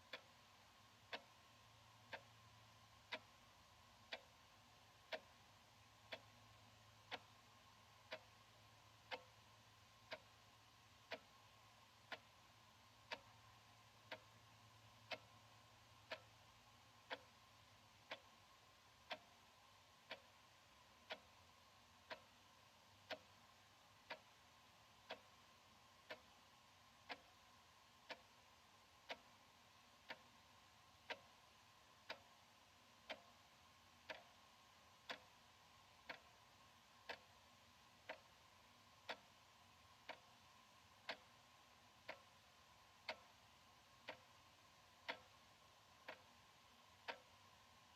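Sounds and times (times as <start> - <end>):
wall clock ticking: 0.0 - 47.9.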